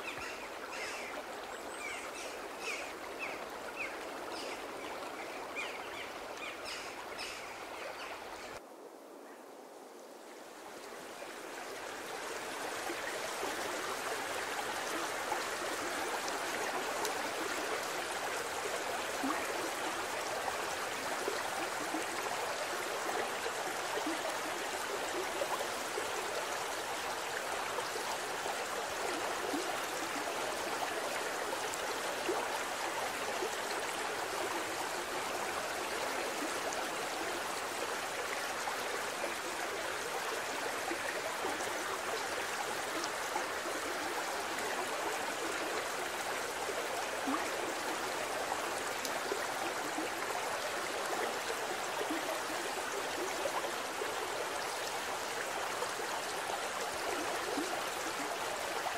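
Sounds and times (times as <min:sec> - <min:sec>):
stream flowing over rocks: 0:00.0 - 0:08.6, 0:10.2 - 0:58.9.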